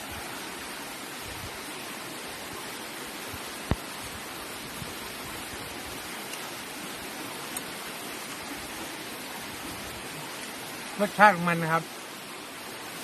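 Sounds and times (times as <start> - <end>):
rushing stream: 0.0 - 13.0.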